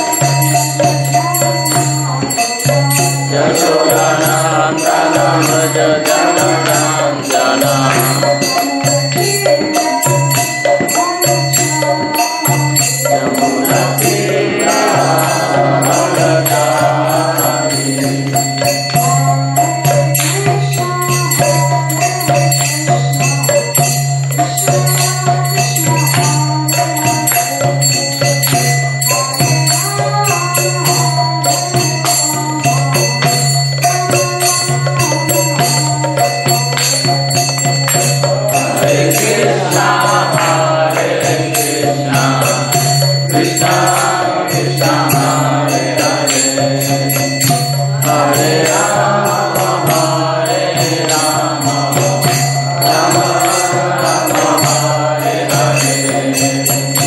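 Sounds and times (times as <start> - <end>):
jingling percussion: 0.0 - 57.0
woman singing a chant: 0.0 - 57.0.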